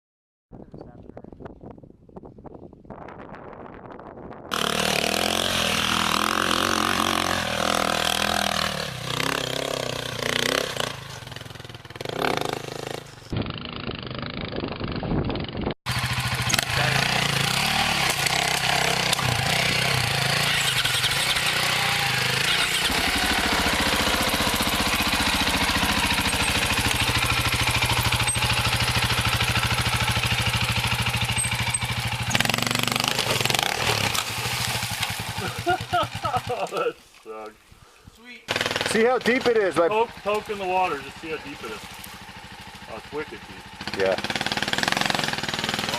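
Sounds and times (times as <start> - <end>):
dirt bike engines revving: 4.5 - 14.5, 15.9 - 45.9.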